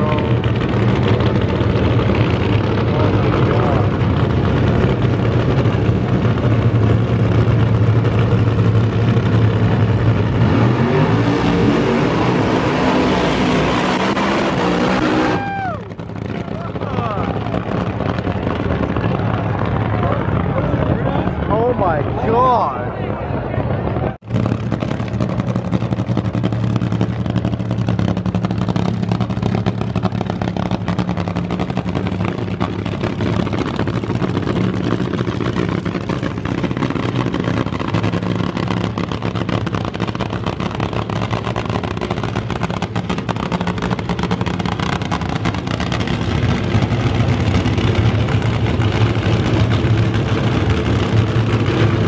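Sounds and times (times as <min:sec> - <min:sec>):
drag car engines rumbling: 0:00.0 - 0:52.0.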